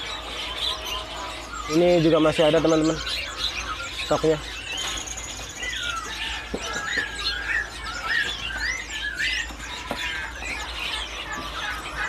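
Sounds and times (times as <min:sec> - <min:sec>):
songbirds chirping: 0:00.0 - 0:12.0
wavering whistled notes: 0:00.0 - 0:12.0.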